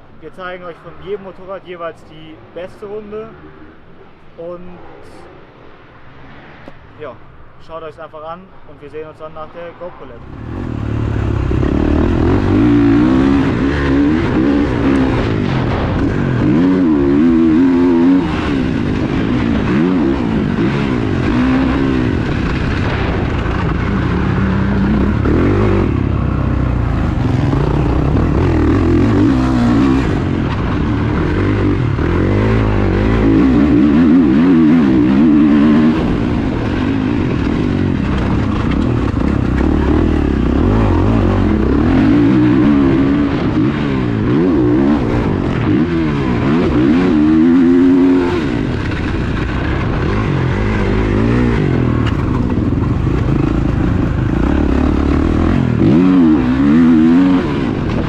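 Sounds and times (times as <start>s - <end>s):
motocross bike engine revving: 10.2s - 58.0s.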